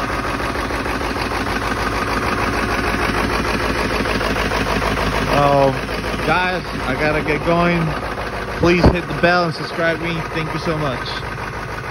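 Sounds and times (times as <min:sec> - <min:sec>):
diesel engine idling: 0:00.0 - 0:11.9.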